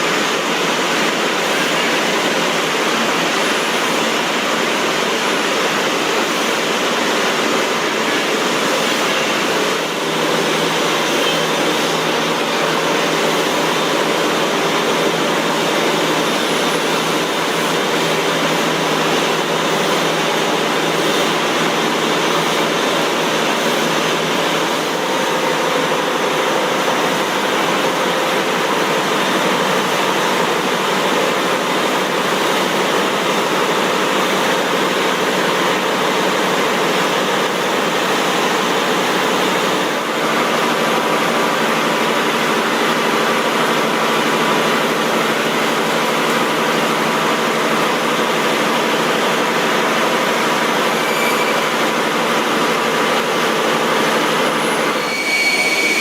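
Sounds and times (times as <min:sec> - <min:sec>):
factory machinery rushing: 0:00.0 - 0:56.0.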